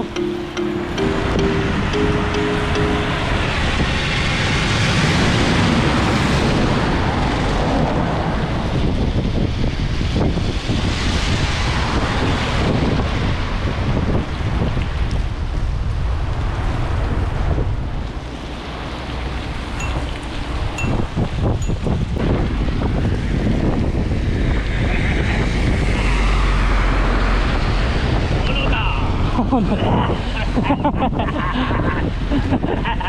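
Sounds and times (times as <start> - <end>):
wind buffeting microphone: 3.3 - 33.0.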